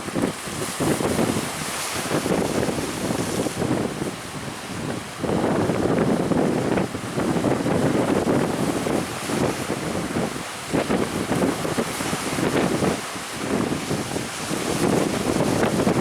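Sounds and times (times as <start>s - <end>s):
rough sea waves: 0.0s - 16.0s
wind buffeting microphone: 0.0s - 16.0s.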